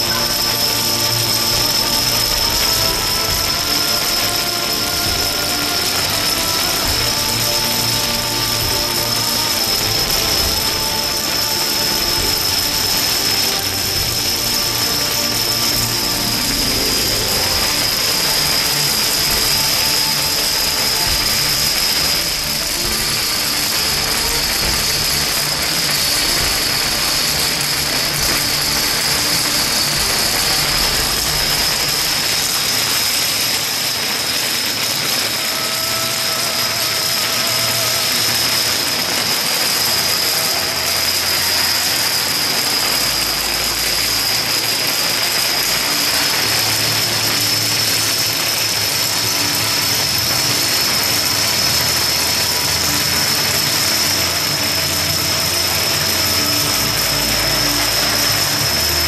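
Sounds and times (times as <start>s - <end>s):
plastic dominoes toppling: 0.0s - 59.0s.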